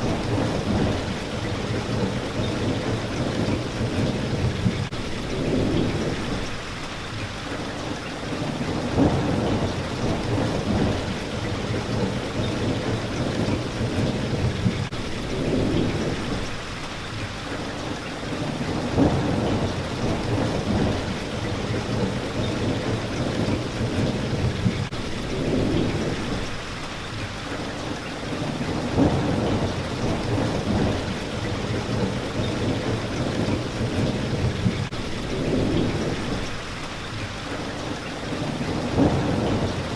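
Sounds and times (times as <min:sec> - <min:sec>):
rolling thunder: 0:00.0 - 0:06.6, 0:08.3 - 0:16.6, 0:18.3 - 0:26.6, 0:28.3 - 0:36.8, 0:38.3 - 0:39.9
rain hitting a window: 0:00.0 - 0:39.9.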